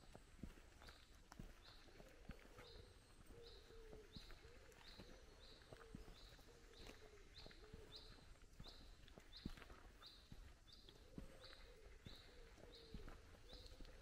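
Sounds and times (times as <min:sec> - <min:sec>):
footsteps on dirt path: 0:00.0 - 0:14.0.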